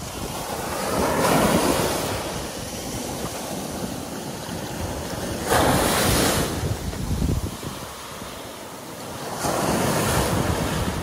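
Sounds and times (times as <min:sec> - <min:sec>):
small waves breaking: 0:00.0 - 0:11.0
surf washing up beach: 0:00.0 - 0:11.0.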